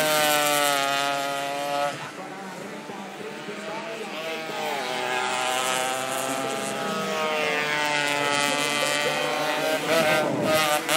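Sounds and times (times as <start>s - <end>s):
motorcycle accelerating at high revs: 0.0s - 10.9s.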